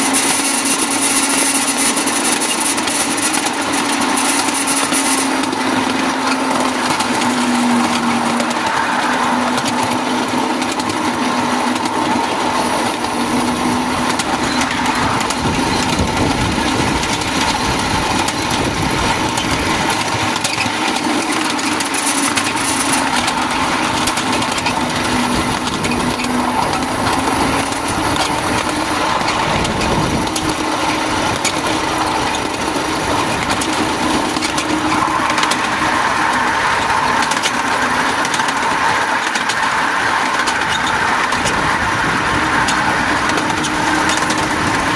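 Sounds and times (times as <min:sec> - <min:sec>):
model train rumbling on rails: 0:00.0 - 0:44.9.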